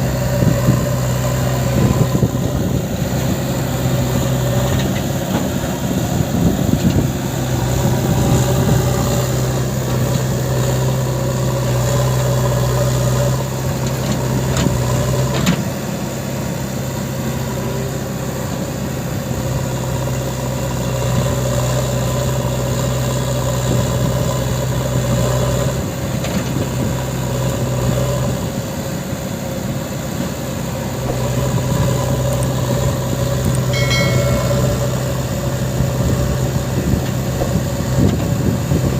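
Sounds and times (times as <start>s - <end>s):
diesel engine of heavy machinery: 0.0s - 38.9s.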